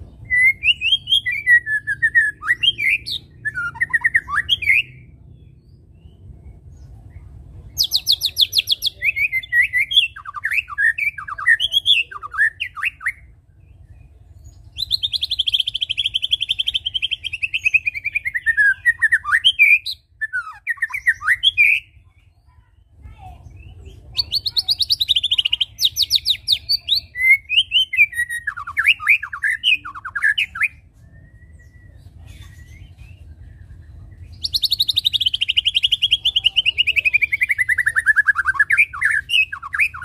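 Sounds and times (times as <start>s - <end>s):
songbird whistling song: 0.0s - 40.0s.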